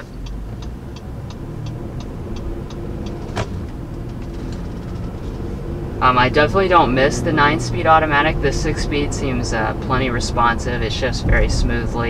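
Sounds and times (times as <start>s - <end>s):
engine and tyres hum: 0.0s - 12.0s
turn signal ticking: 0.0s - 12.0s.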